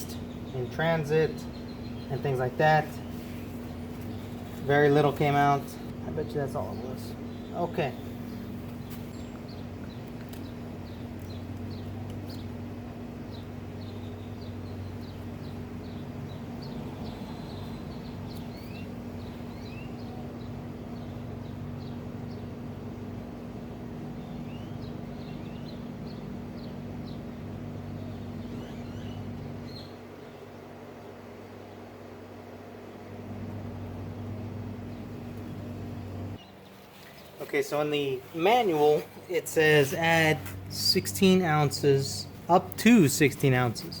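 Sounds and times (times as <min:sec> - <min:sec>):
birds chirping: 0:00.0 - 0:44.0
low mechanical hum: 0:00.0 - 0:44.0.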